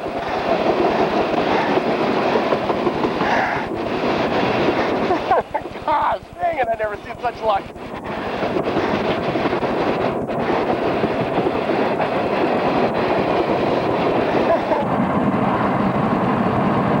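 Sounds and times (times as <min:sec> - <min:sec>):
train wheels rumbling and clattering: 0:00.0 - 0:17.0.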